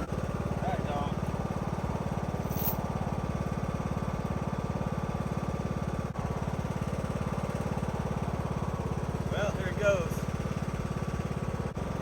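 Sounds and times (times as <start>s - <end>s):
riding lawnmower engine idling: 0.0s - 12.0s.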